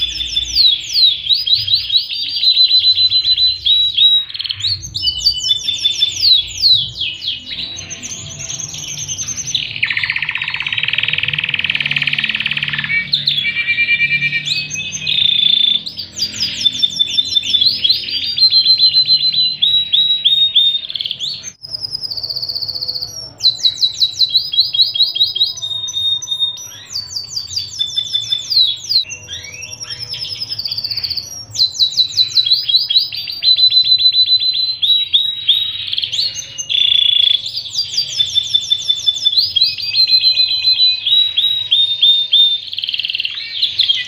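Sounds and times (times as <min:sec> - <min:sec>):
canary singing trills: 0:00.0 - 0:44.0.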